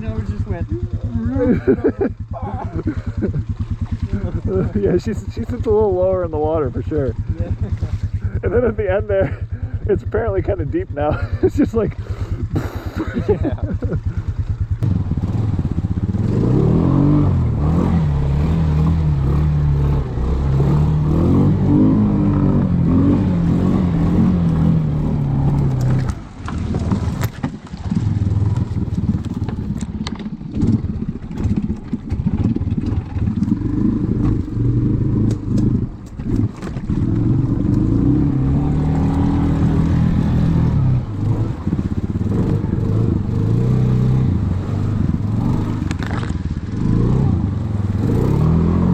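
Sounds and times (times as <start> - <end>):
atv engine revving: 0.0 - 48.9.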